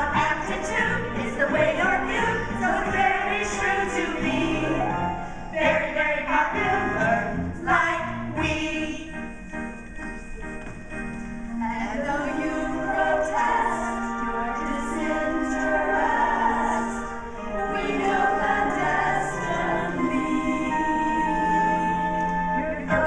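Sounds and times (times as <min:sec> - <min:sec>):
women singing together: 0:00.0 - 0:09.1, 0:11.6 - 0:23.0.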